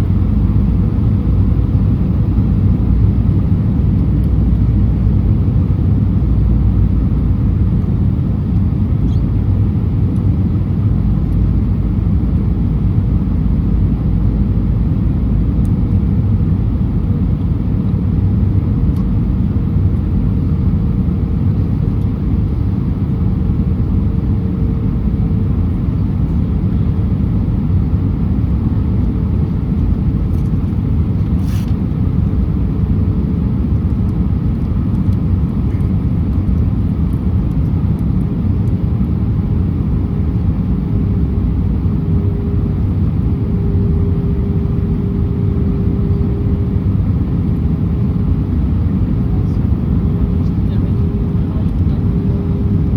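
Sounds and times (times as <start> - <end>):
airplane engine and airflow rumble: 0.0 - 52.9
faint steady hum: 0.0 - 52.9.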